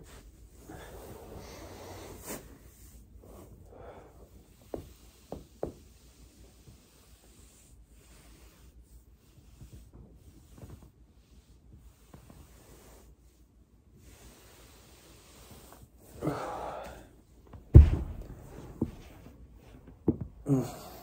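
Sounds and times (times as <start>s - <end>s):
body rubbing on foam roller: 0.0s - 20.3s.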